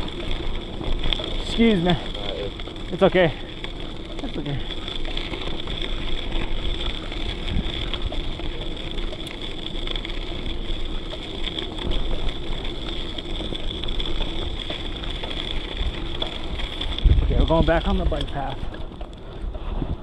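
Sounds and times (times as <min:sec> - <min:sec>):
constant high hiss: 0:00.0 - 0:19.7
bicycle rolling noise: 0:00.0 - 0:20.0
wind noise: 0:00.0 - 0:20.0.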